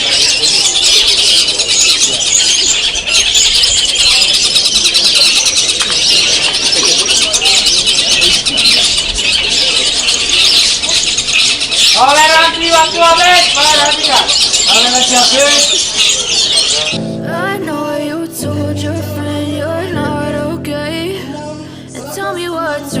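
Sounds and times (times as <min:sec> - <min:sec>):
birds singing and chattering: 0:00.0 - 0:23.0
faint murmur of voices: 0:00.0 - 0:23.0.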